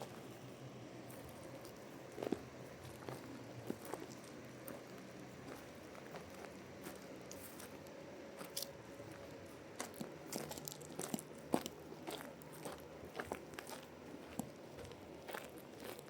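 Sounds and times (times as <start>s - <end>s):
faint steady hum: 0.0s - 16.0s
crunching and crackling clicks: 1.2s - 16.0s.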